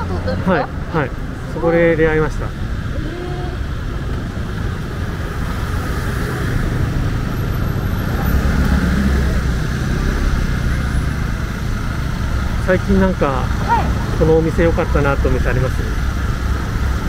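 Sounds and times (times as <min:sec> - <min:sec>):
car engines running: 0:00.0 - 0:17.0
road noise: 0:00.0 - 0:17.0.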